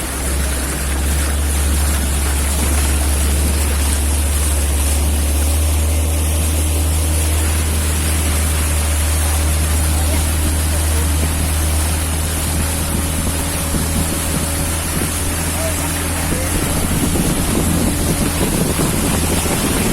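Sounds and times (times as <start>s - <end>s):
speedboat engine drone: 0.0s - 19.9s
water rushing past hull: 0.0s - 19.9s.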